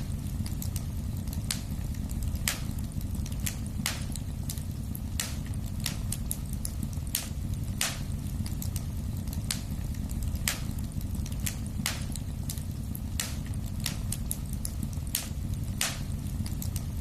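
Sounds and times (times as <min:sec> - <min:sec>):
burning wood crackling and popping: 0:00.0 - 0:17.0
flames rumbling: 0:00.0 - 0:17.0.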